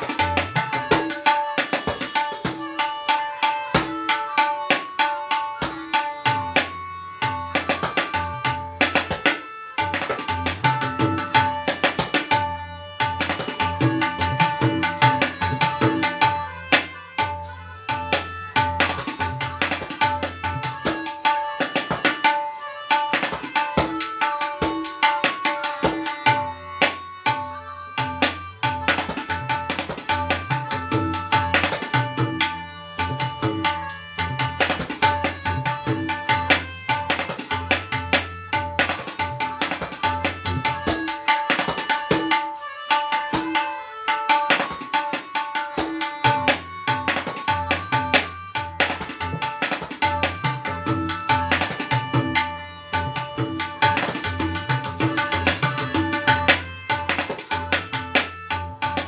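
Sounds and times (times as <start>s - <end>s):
tabla treble drum strokes: 0.0s - 59.0s.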